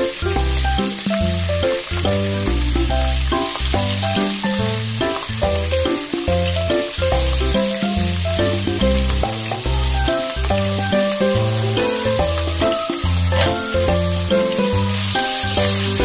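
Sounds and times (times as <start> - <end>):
background music: 0.0 - 16.0
pork sizzling in oil: 0.0 - 16.0.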